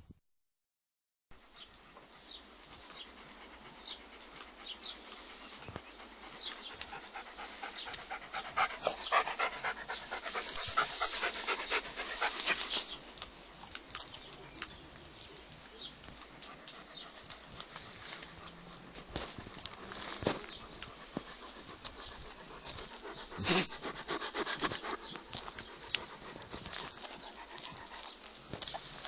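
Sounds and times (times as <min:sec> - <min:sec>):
dog panting: 0:01.8 - 0:29.0.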